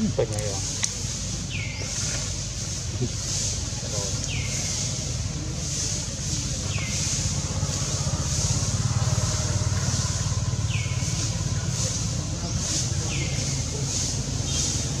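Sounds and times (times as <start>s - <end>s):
high hiss: 0.0s - 15.0s
low engine-like rumble: 0.0s - 15.0s.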